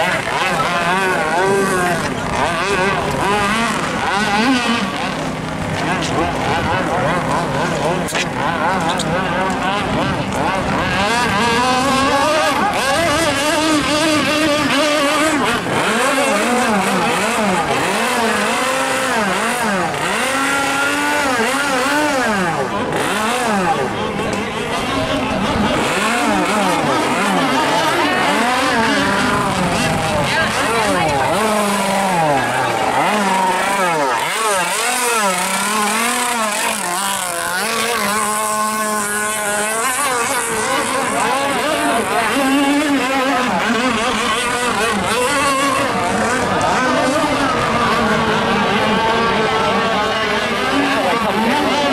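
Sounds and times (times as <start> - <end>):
small boat engine running hard: 0.0 - 51.9.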